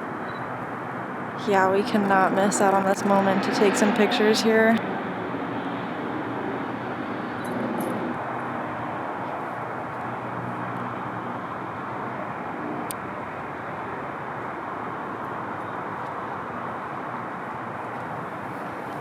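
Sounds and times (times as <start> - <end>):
city traffic hum: 0.0 - 19.0.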